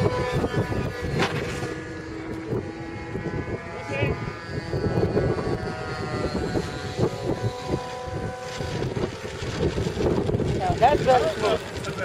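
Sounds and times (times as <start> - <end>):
model airplane motor droning: 0.0 - 12.0.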